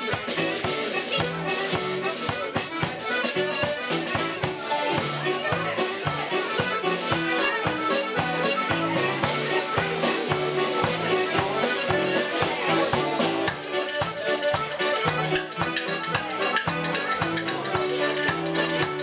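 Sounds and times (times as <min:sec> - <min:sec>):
accordion dance tune: 0:00.0 - 0:19.0
drum kit: 0:00.0 - 0:19.0.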